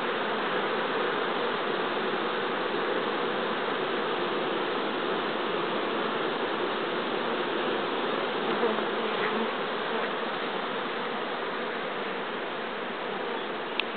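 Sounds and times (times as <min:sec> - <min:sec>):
honeybees humming: 0:00.0 - 0:13.9.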